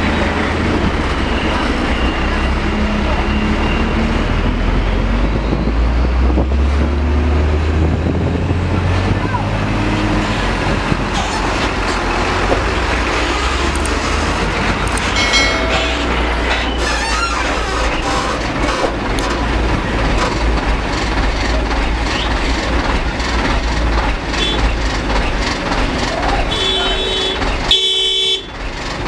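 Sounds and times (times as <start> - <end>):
diesel truck engine rumble: 0.0 - 29.0.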